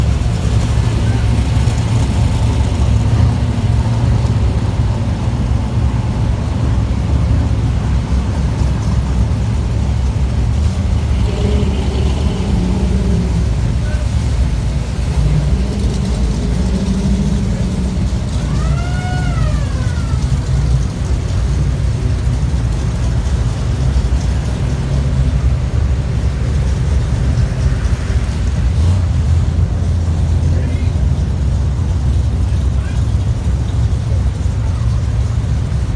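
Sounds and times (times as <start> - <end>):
car engines rumbling: 0.0 - 35.9.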